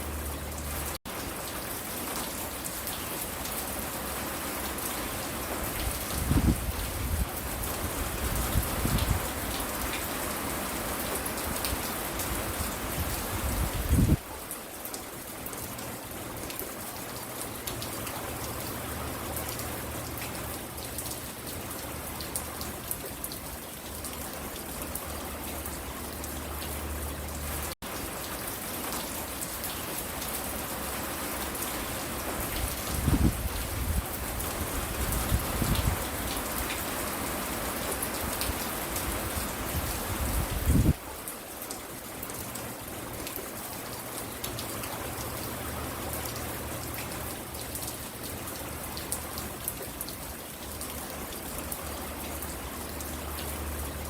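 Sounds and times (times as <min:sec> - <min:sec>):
rain pattering on a porch: 0:00.0 - 0:54.0.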